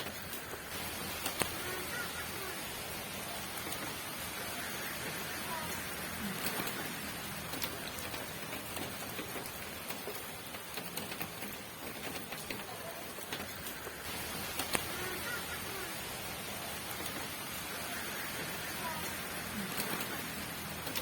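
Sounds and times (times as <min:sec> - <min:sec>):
raindrops ticking on a surface: 0:00.0 - 0:21.0
steady rain hiss: 0:00.0 - 0:21.0.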